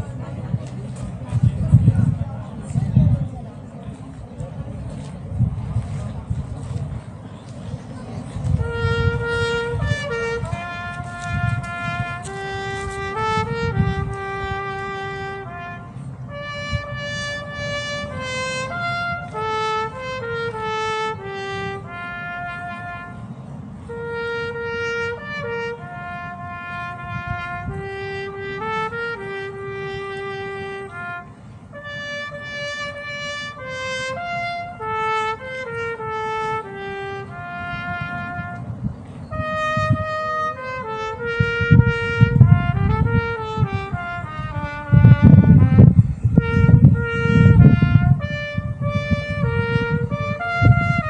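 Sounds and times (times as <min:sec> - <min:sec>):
low rumbling noise: 0:00.0 - 0:51.0
solo trumpet melody: 0:08.4 - 0:51.0.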